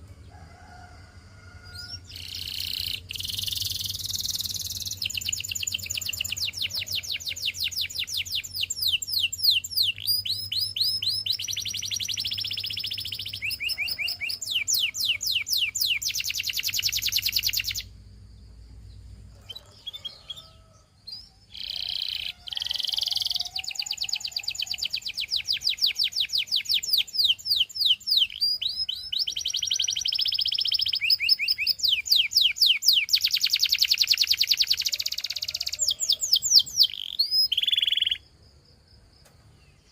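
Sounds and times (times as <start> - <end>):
canary singing trills: 1.6 - 38.3.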